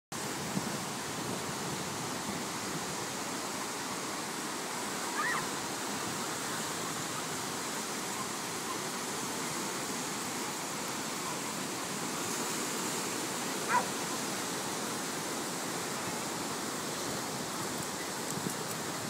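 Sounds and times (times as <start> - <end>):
ocean surf rushing: 0.2 - 19.0.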